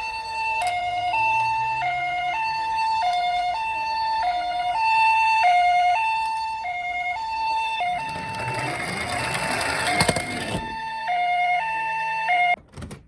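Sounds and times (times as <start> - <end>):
toy siren two-tone hi-lo: 0.0 - 12.6.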